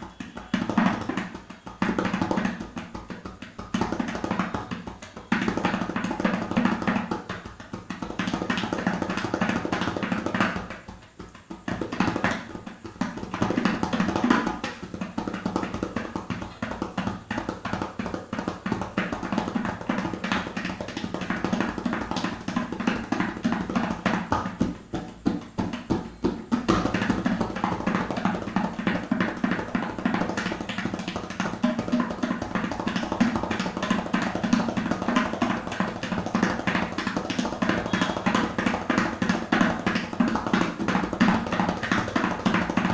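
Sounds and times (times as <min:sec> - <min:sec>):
tabla strokes: 0:00.0 - 0:42.9.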